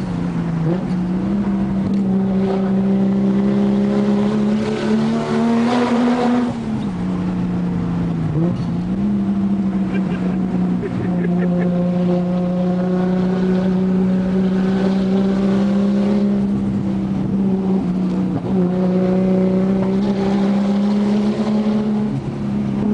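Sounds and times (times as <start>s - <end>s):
car exhaust at cruising speed: 0.0s - 22.9s.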